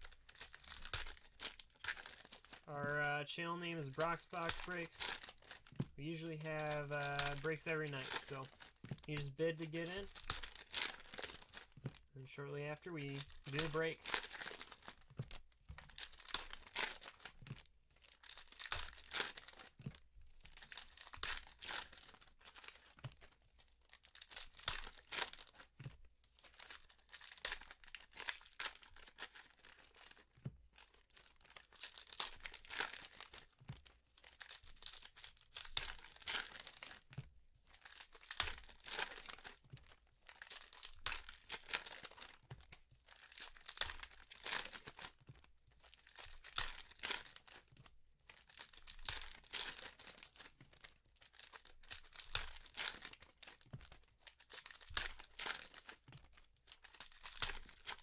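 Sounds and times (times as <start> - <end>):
foil wrappers crinkling: 0.0 - 58.0.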